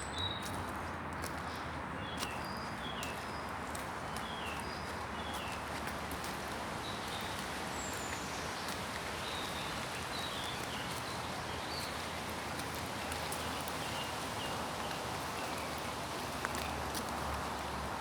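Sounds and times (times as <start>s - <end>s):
rain falling through woodland: 3.1s - 18.0s.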